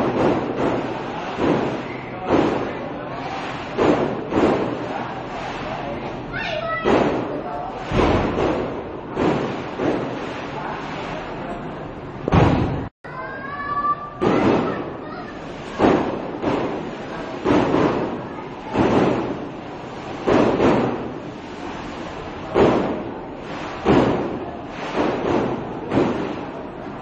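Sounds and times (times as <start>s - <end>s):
fireworks bangs: 0.0s - 12.9s, 14.1s - 27.0s.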